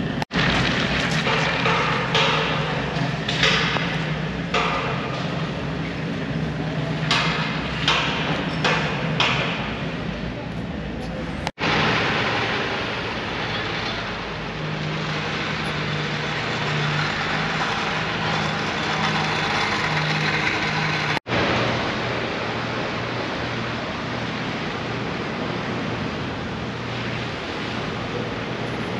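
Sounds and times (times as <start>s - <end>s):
car engines running: 0.0s - 28.9s
road noise: 0.0s - 28.9s.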